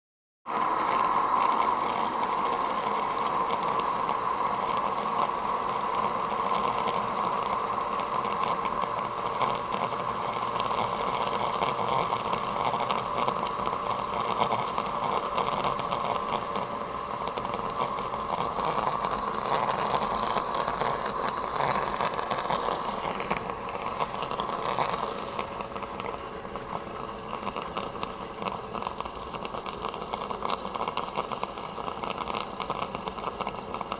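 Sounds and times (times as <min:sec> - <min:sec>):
pump motor hum: 0:00.5 - 0:33.9.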